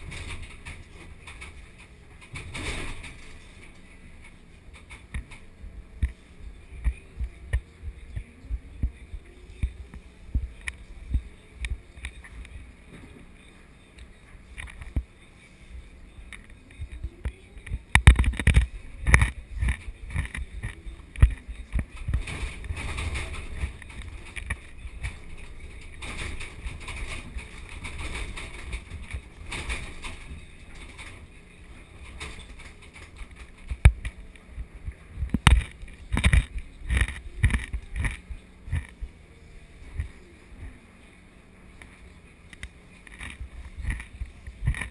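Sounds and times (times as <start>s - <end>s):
excavator engine rumble: 0.0s - 44.9s.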